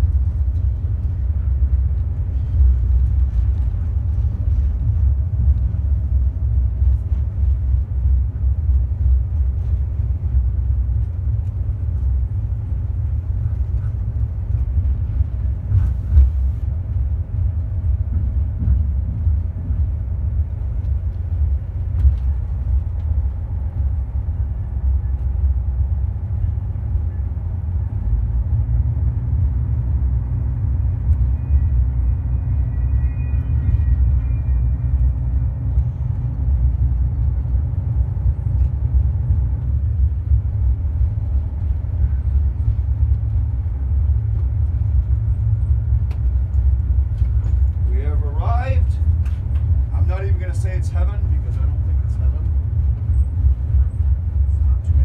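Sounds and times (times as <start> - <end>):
diesel railcar rumbling: 0.0 - 55.0.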